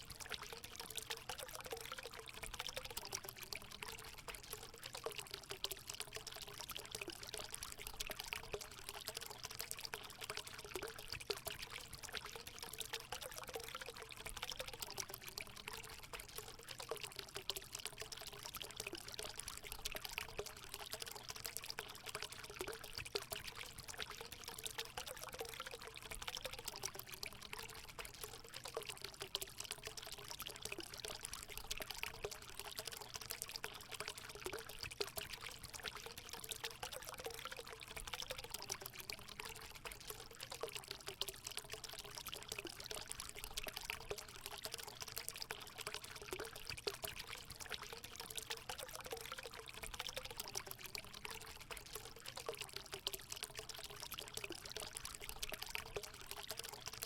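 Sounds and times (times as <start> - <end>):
faint water gurgle: 0.0 - 57.0
water pouring into a pool: 0.0 - 57.0.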